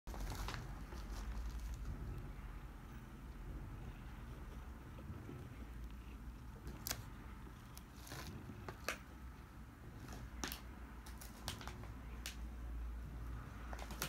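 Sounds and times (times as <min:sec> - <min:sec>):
low steady hum: 0:00.1 - 0:14.0.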